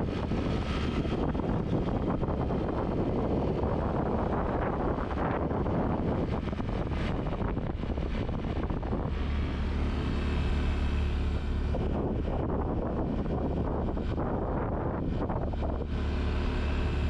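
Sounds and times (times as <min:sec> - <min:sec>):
scooter engine and tyre noise: 0:00.0 - 0:17.0
wind buffeting microphone: 0:00.0 - 0:17.0.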